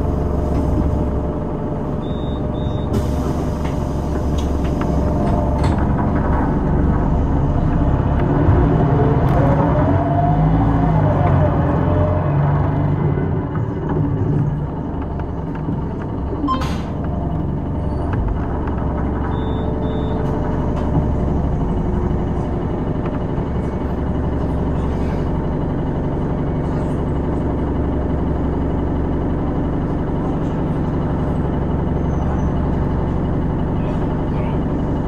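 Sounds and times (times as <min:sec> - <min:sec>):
bus engine idling: 0:00.0 - 0:09.6, 0:10.3 - 0:35.0.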